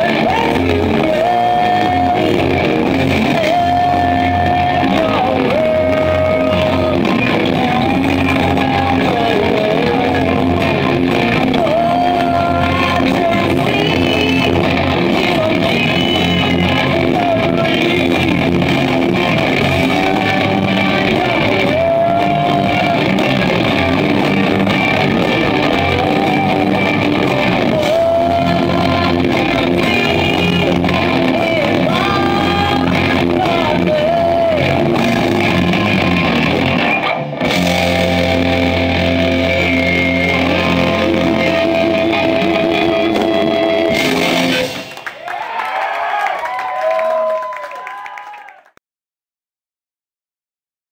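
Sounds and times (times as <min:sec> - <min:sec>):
person singing: 0:00.0 - 0:44.9
live rock band playing: 0:00.0 - 0:45.2.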